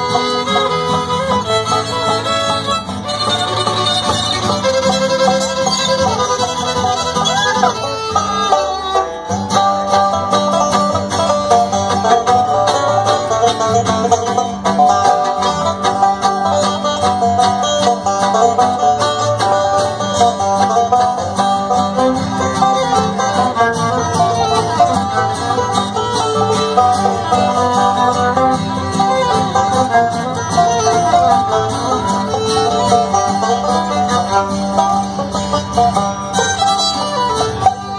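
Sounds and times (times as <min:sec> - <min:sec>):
bluegrass band playing: 0:00.0 - 0:37.9.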